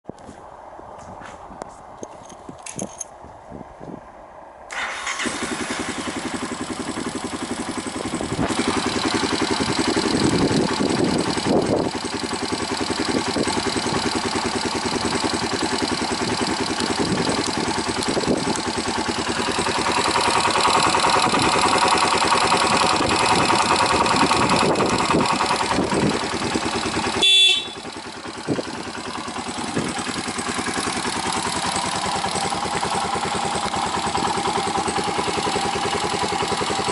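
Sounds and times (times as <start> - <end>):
motorcycle engine running: 4.7 - 36.9.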